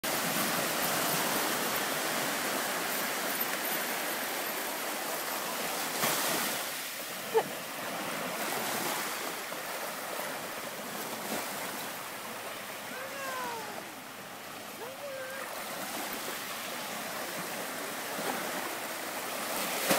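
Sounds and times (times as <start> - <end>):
small waves breaking on sand: 0.0 - 19.9.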